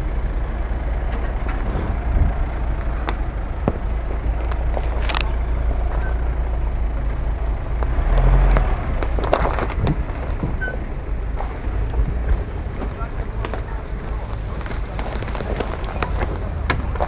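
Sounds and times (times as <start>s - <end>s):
vehicle engine rumble: 0.0s - 17.0s
twigs and leaves crackling under tyres: 2.2s - 17.0s.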